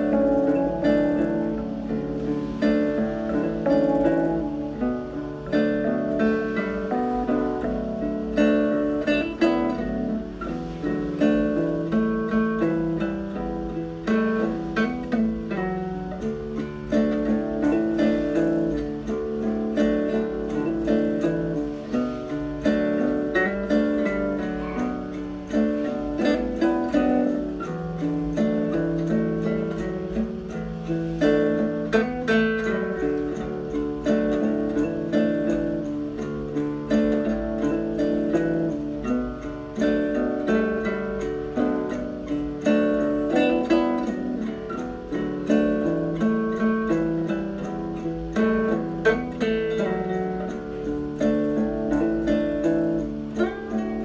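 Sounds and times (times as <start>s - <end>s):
plucked acoustic guitar tune: 0.0s - 54.0s.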